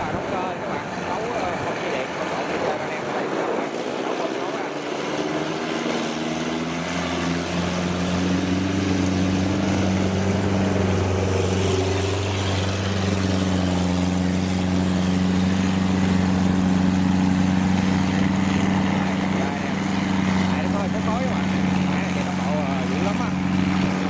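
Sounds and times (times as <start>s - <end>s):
combine harvester diesel engine: 0.0s - 24.0s.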